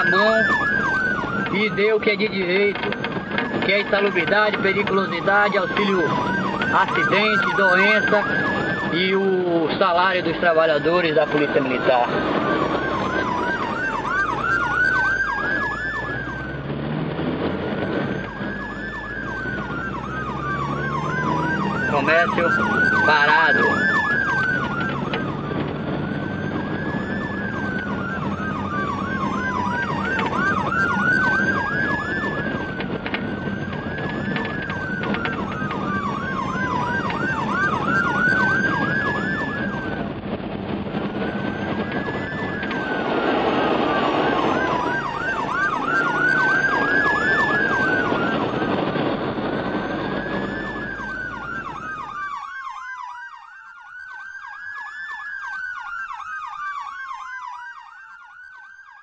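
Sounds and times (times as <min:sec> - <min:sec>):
traffic rumble: 0:00.0 - 0:58.8
emergency siren wail and yelp: 0:00.0 - 0:59.0.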